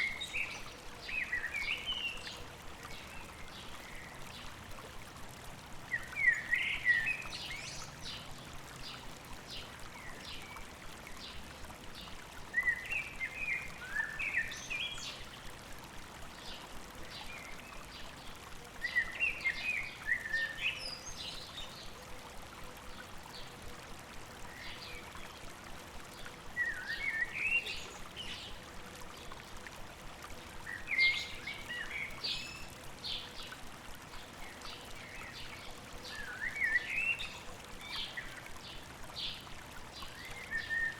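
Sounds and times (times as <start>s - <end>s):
flowing stream: 0.0s - 40.9s.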